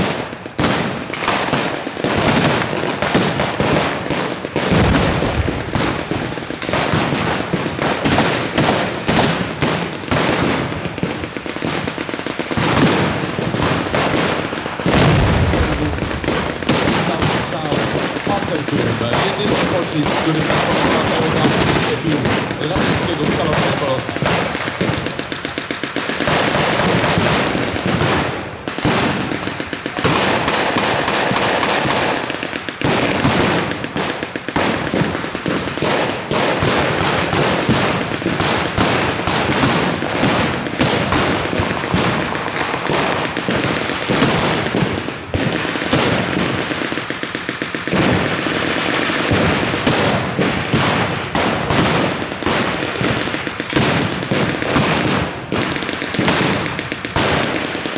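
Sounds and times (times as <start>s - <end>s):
rapid blank gunfire: 0.0s - 57.9s.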